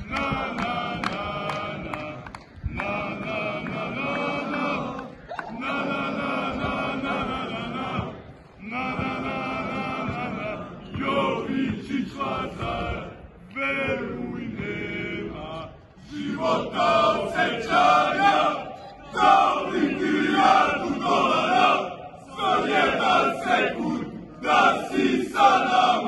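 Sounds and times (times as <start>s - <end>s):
crowd of men chanting: 0.0s - 26.0s.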